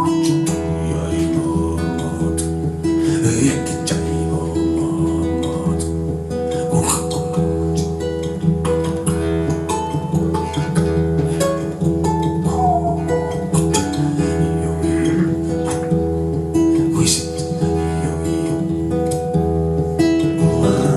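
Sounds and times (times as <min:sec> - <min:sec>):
acoustic guitar music: 0:00.0 - 0:20.9.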